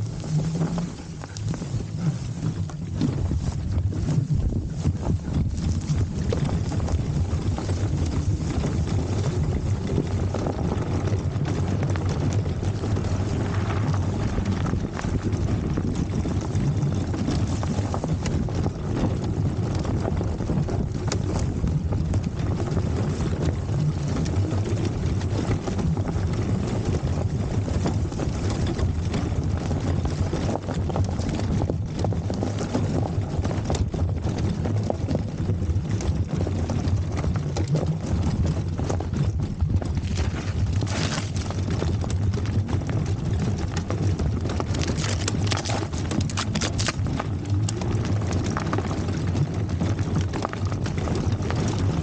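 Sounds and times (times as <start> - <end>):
low rumble of scooter: 0.0 - 52.0
wind buffeting microphone: 0.0 - 52.0.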